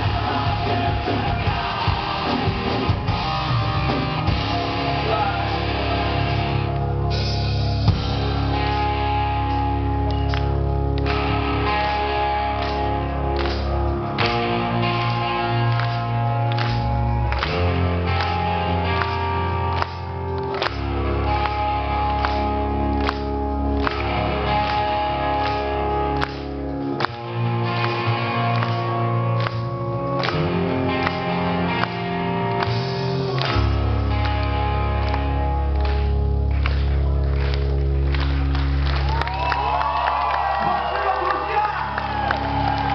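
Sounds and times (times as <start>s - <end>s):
bass line: 0.0s - 42.9s
electric guitars: 0.0s - 42.9s.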